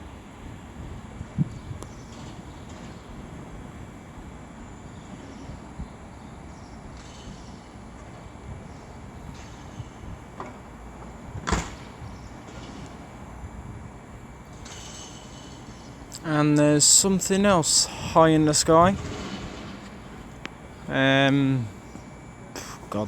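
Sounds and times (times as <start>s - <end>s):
station platform background noise: 0.0s - 23.0s.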